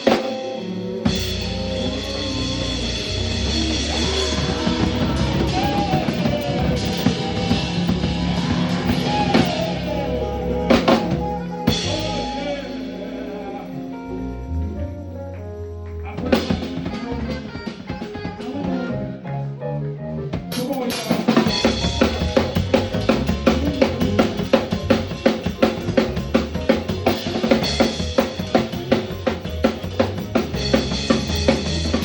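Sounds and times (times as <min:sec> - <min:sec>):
rock band playing live: 0:00.0 - 0:19.5, 0:20.2 - 0:32.0.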